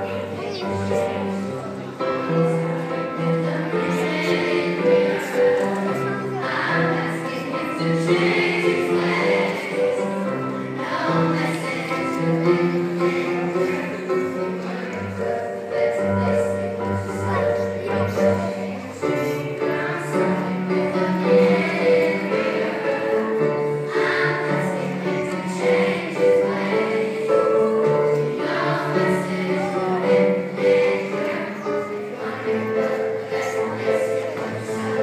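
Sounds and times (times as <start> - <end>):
children's choir singing: 0.0 - 35.0.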